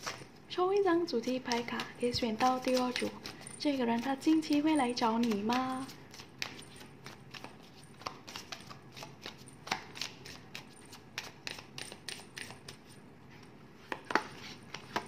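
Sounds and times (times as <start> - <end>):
cards shuffling and clicking: 0.0 - 15.0.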